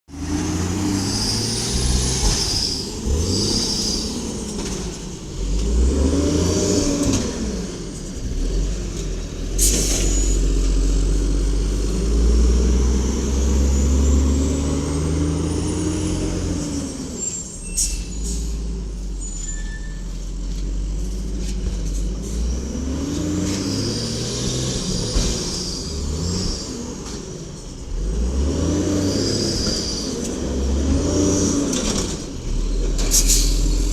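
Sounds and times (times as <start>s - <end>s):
truck engine revving: 0.1s - 17.5s, 20.2s - 33.9s.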